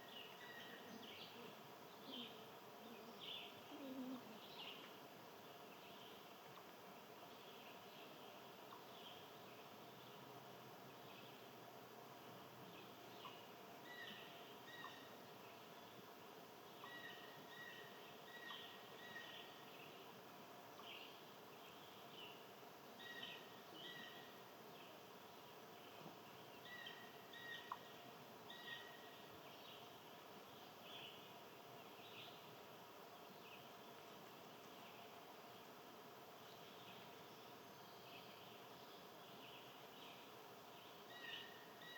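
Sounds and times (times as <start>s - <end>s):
steady low hiss: 0.0s - 41.9s.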